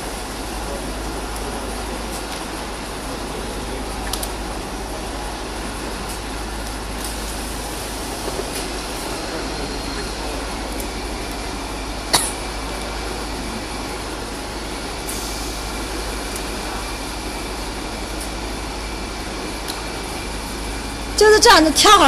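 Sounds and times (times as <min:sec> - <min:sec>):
workshop machinery humming: 0:00.0 - 0:22.0.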